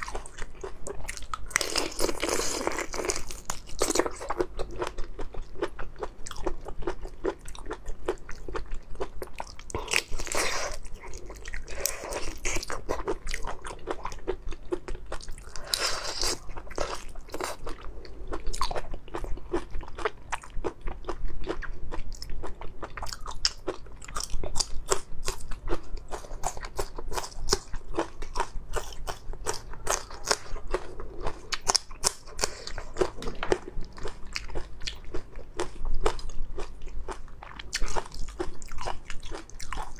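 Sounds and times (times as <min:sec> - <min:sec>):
wet crunching while chewing: 0:00.0 - 0:39.9.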